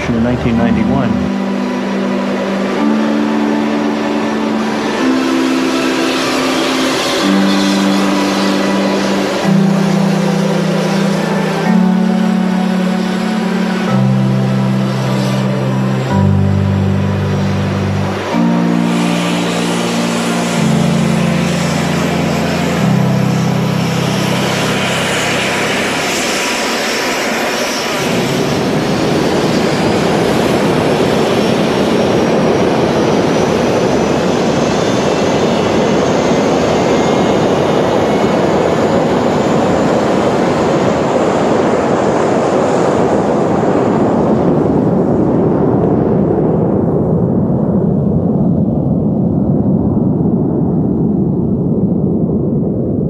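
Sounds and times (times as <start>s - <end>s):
music: 0.0s - 52.0s
jet engines roaring with whine: 0.0s - 53.0s.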